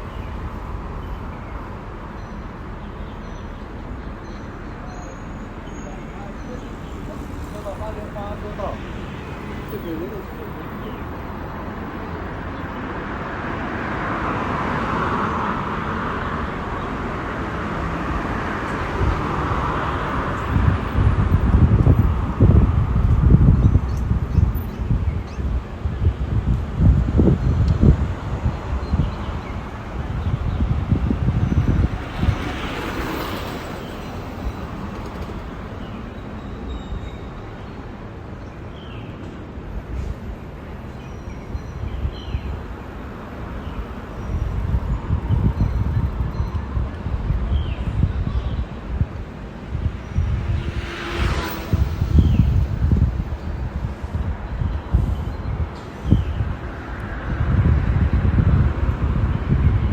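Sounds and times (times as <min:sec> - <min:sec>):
vehicles passing on road: 0:00.0 - 0:59.9
wind buffeting microphone: 0:05.4 - 0:59.9.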